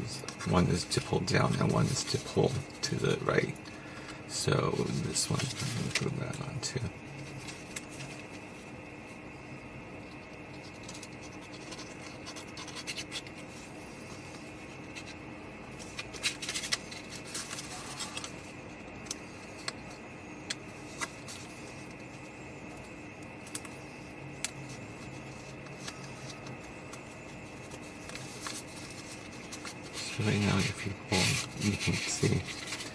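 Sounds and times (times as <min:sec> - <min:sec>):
steady background hum: 0:00.0 - 0:32.9
paper scratching and rustling: 0:00.4 - 0:09.3, 0:10.0 - 0:32.9.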